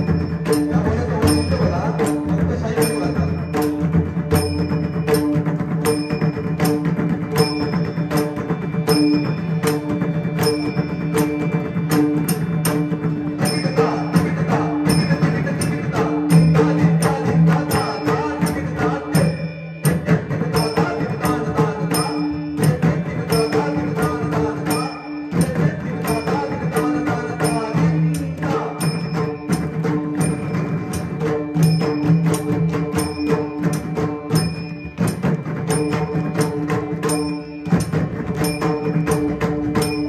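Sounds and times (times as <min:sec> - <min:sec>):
tabla drums fast rhythm: 0:00.0 - 0:40.0.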